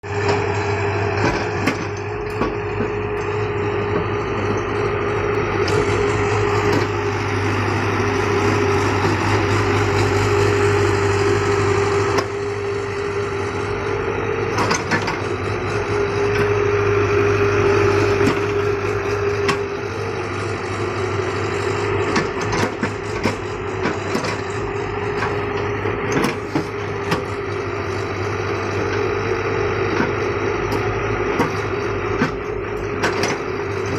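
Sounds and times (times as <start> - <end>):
engine running steadily: 0.0 - 33.9.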